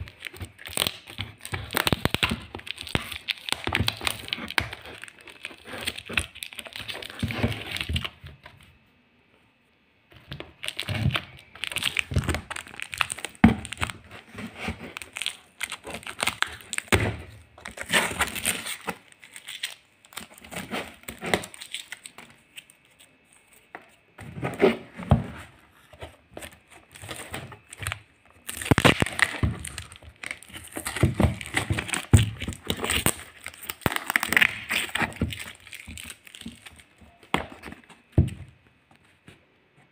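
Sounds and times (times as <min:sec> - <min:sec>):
plastic packaging crinkling and tearing: 0:00.0 - 0:08.2, 0:10.2 - 0:38.4.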